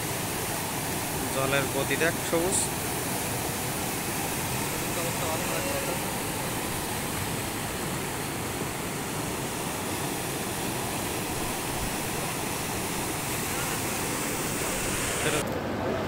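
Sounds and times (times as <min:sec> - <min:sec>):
fast turbulent water rushing: 0:00.0 - 0:15.5.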